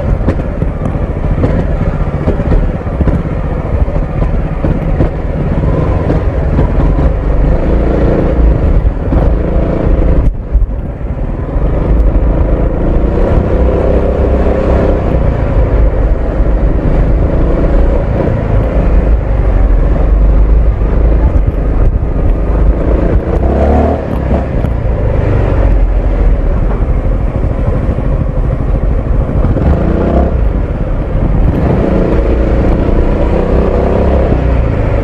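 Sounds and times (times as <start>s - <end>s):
scooter engine running: 0.0s - 14.4s, 15.0s - 35.0s.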